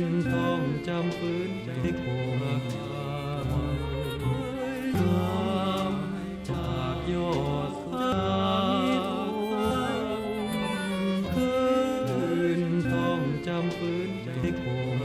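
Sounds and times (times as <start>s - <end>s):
bowed strings music: 0.0s - 15.0s.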